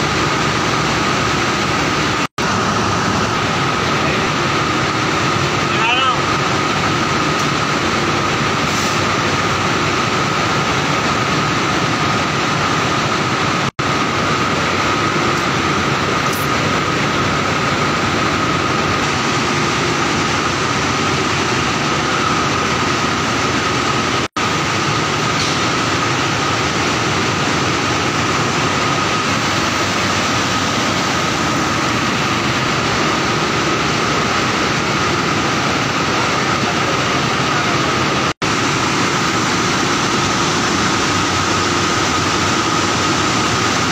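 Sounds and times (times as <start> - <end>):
machine running with high whine: 0.0 - 43.9.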